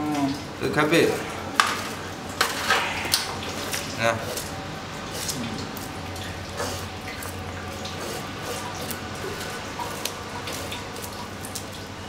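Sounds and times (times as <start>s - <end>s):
fish scaling machine hum: 0.0s - 12.0s.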